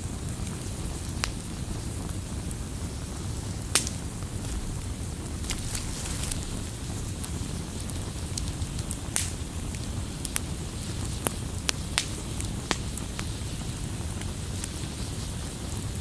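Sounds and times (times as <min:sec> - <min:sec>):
burning wood crackling and popping: 0:00.0 - 0:16.0
low roar of flames: 0:00.2 - 0:16.0.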